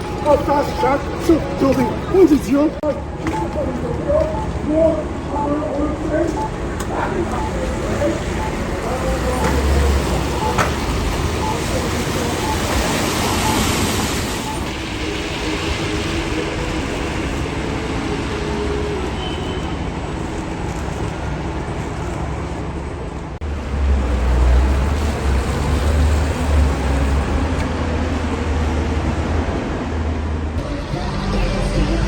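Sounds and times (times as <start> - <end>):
city street traffic: 0.0 - 32.0.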